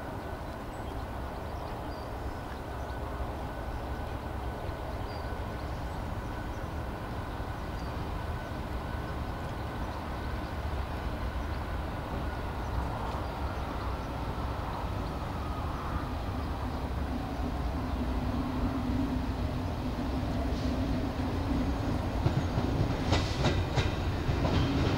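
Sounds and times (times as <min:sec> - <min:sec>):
diesel locomotive engine rumbling: 0:00.0 - 0:24.9.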